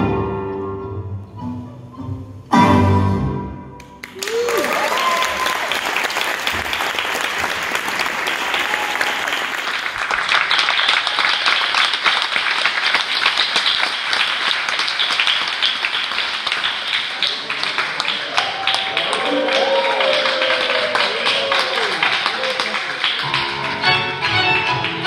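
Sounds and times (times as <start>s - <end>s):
audience applauding: 3.8s - 25.0s.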